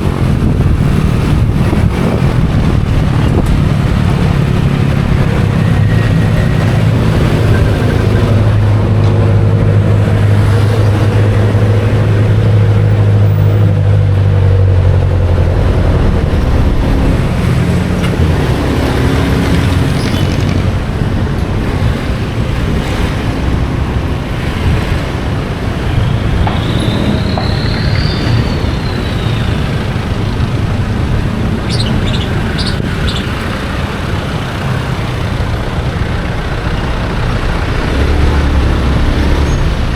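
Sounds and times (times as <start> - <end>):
passing traffic: 0.0 - 39.9
road and wind noise: 0.0 - 39.9.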